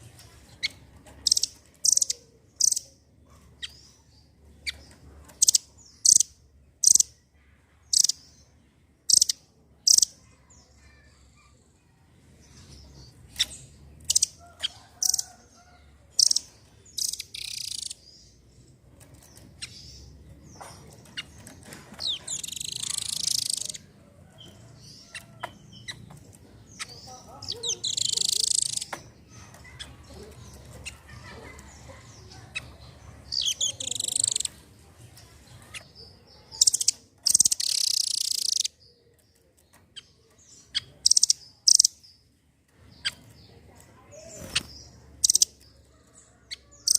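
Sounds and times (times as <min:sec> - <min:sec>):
bird chirping and trilling: 0:00.2 - 0:34.6, 0:35.2 - 0:46.9.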